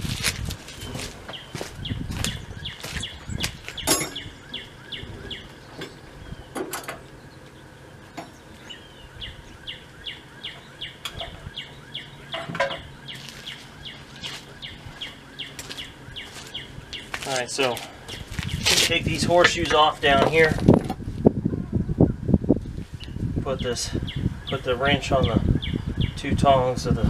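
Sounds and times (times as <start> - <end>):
bird chirping: 0.7 - 20.5, 23.0 - 26.5.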